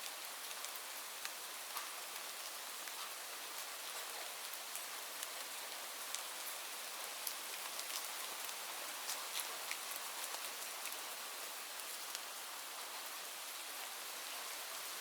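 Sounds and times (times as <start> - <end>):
raindrops ticking on a surface: 0.0 - 15.0
steady rain hissing: 0.0 - 15.0.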